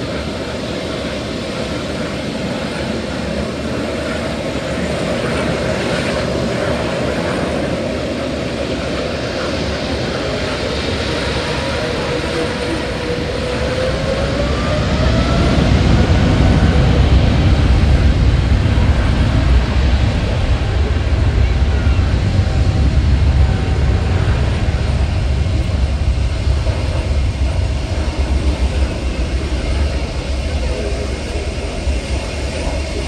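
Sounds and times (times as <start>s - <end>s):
jet engines roaring and whining: 0.0s - 33.0s.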